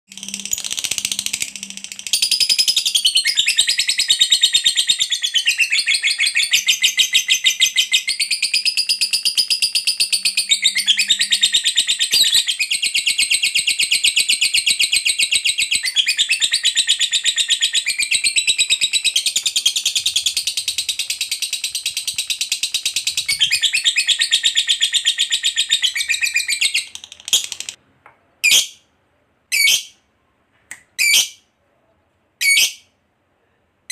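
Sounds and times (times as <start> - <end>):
lovebird chattering trill: 0.1 - 27.8.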